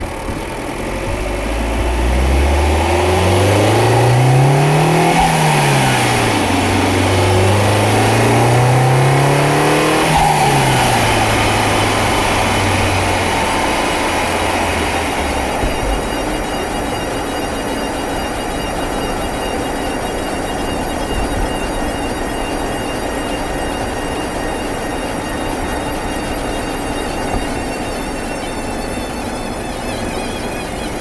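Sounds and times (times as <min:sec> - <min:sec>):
car engine accelerating: 0:00.0 - 0:31.0
engine whining: 0:00.0 - 0:31.0.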